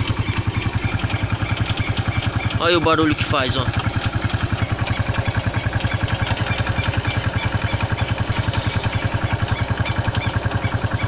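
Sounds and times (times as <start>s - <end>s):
motorcycle engine idling: 0.0s - 11.0s
strange mechanical rattle: 0.0s - 11.0s.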